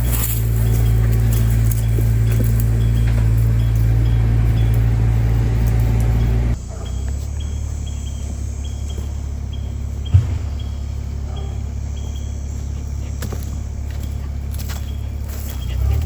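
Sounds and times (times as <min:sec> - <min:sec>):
heavy equipment engine humming: 0:00.0 - 0:16.0
insects chirping: 0:00.0 - 0:16.0.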